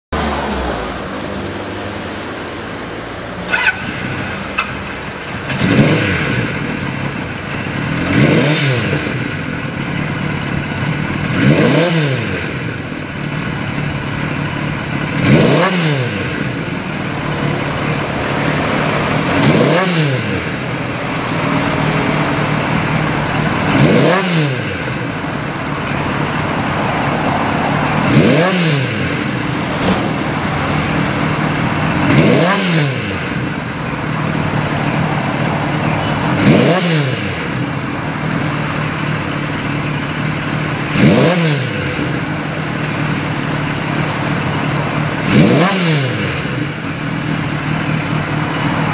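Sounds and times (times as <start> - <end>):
motorcycle engine idling and revving: 0.1 - 48.9.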